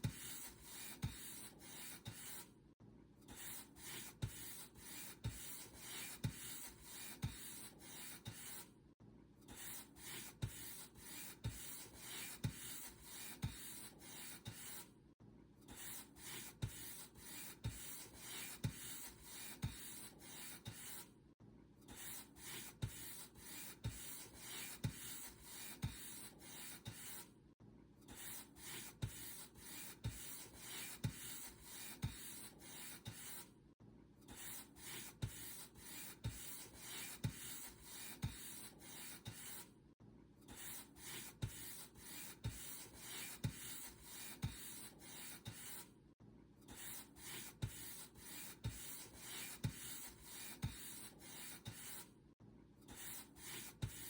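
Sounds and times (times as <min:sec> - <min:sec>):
paint brush strokes on surface: 0:00.0 - 0:02.5, 0:03.4 - 0:08.7, 0:09.6 - 0:14.9, 0:15.8 - 0:21.1, 0:22.0 - 0:27.3, 0:28.2 - 0:33.5, 0:34.3 - 0:39.7, 0:40.5 - 0:45.9, 0:46.7 - 0:52.1, 0:52.9 - 0:54.0.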